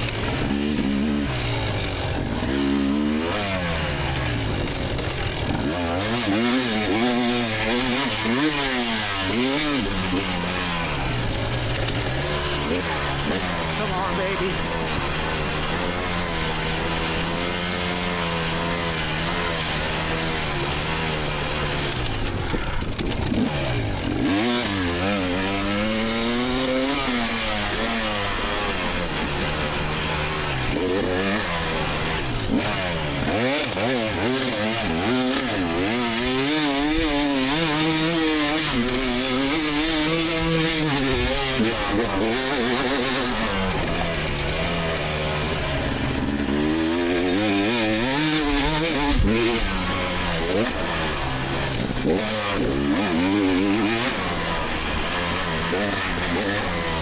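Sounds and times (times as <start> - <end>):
two-stroke dirt bike engine revving: 0.0 - 57.0.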